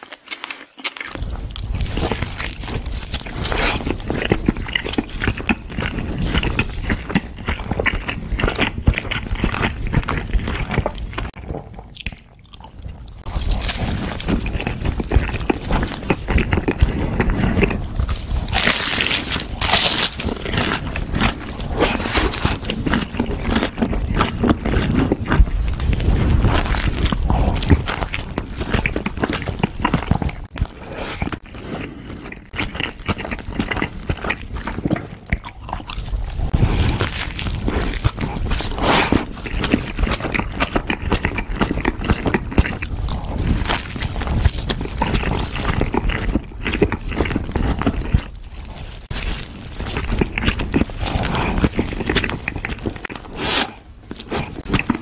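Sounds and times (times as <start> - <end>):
crunching and chewing: 0.0 - 55.0.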